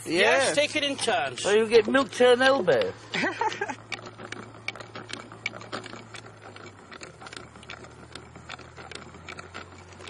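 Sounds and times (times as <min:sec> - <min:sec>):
butter churn clicking and knocking: 0:00.0 - 0:10.0.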